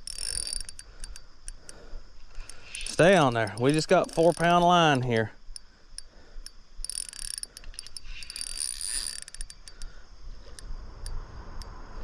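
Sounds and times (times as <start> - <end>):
fishing reel clicking and whirring: 0.0 - 11.7.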